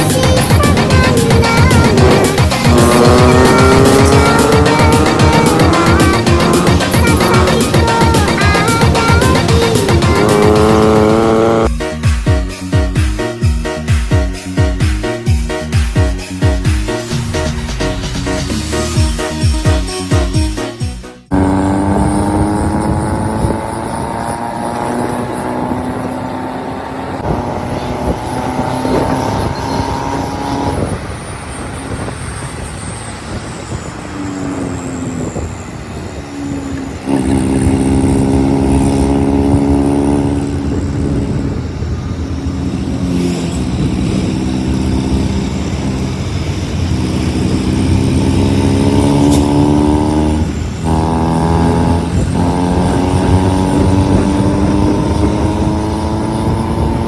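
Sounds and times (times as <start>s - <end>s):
diesel engine pulling hard: 0.0s - 11.9s, 21.3s - 57.0s.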